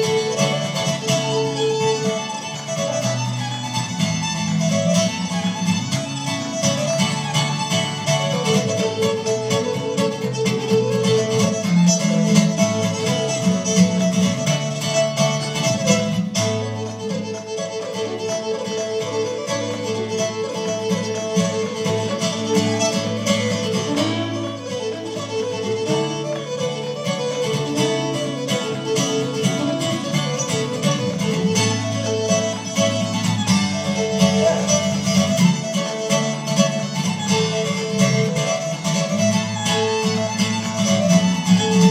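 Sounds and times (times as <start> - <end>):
acoustic guitar strumming: 0.0 - 41.9
fiddle melody: 0.0 - 41.9.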